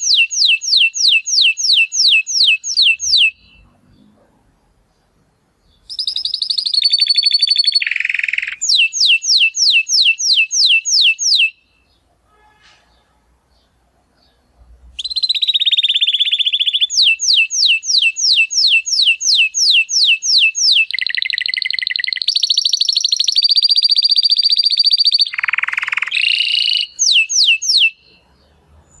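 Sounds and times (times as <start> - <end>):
canary singing trills: 0.0 - 4.3, 5.6 - 12.2, 13.5 - 29.0.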